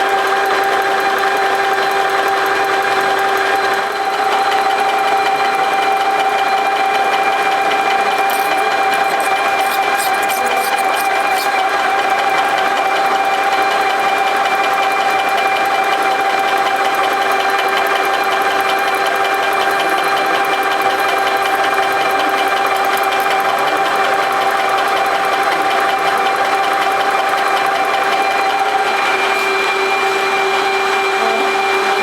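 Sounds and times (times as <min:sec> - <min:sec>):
stirling engine humming and ticking: 0:00.0 - 0:32.0.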